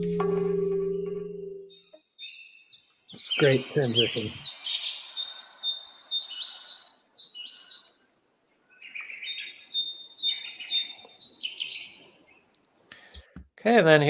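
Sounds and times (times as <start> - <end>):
birds chirping and tweeting: 0.0 - 13.4.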